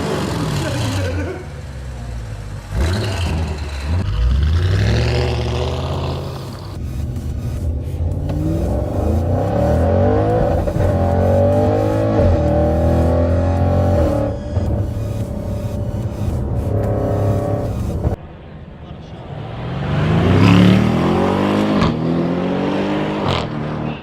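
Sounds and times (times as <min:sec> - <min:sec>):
exhaust cracks: 0:00.0 - 0:19.6
car engine accelerating: 0:00.0 - 0:24.0.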